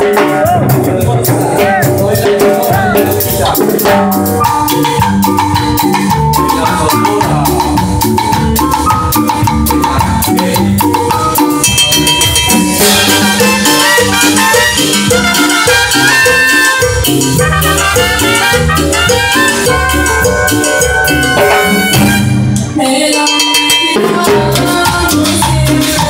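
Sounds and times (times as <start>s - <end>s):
live cumbia band playing: 0.0s - 26.0s.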